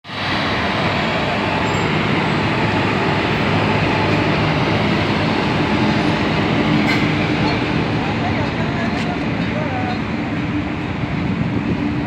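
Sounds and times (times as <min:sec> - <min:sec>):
train locomotives rumbling: 0:00.0 - 0:12.0.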